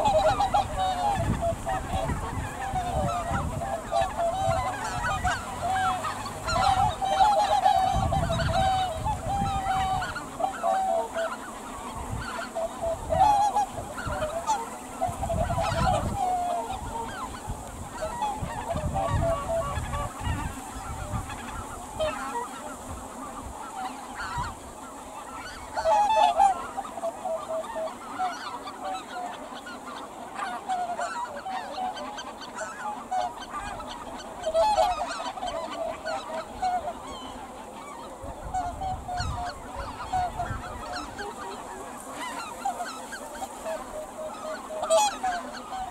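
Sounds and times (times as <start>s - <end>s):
geese honking: 0.0s - 45.9s.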